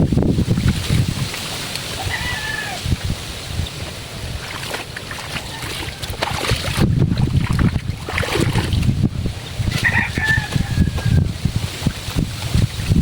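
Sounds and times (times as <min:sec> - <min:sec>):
wind rumble on microphone: 0:00.0 - 0:13.0
water splashing and sloshing: 0:00.2 - 0:13.0.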